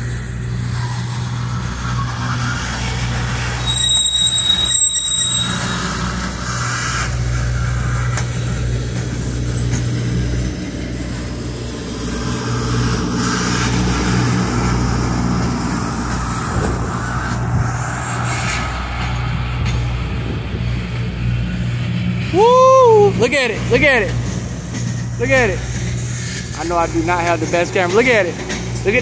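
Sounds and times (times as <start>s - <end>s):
train cars rumbling on rails: 0.0s - 29.0s
high-pitched squeal: 0.4s - 29.0s.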